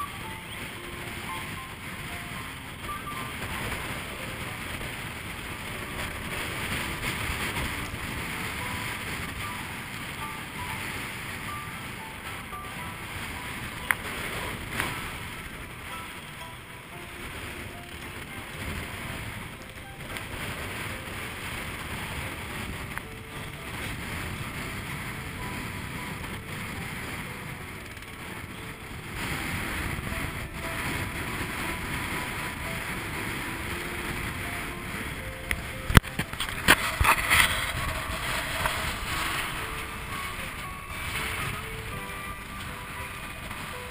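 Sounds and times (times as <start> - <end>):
water rushing along hull: 0.0 - 43.9
wind buffeting microphone: 0.0 - 43.9.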